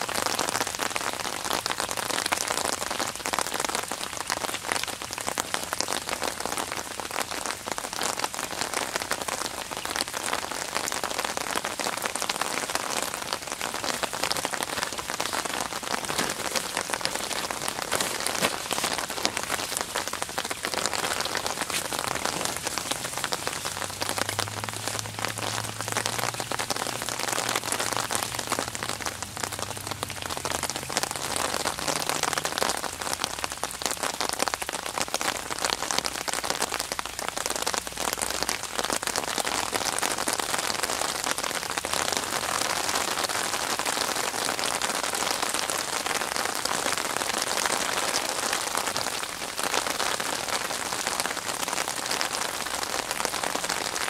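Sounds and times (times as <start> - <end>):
rain falling on water: 0.0 - 54.0.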